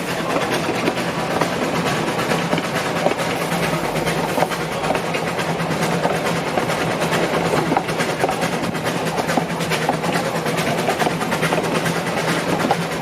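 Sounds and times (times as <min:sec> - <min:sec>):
train rumbling: 0:00.0 - 0:13.0
wheels rattling and clicking: 0:00.0 - 0:13.0.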